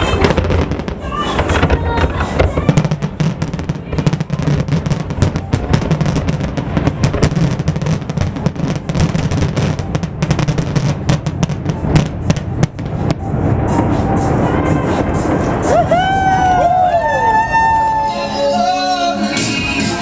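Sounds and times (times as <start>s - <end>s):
fireworks popping and crackling: 0.0s - 16.5s
music playing: 0.0s - 20.0s.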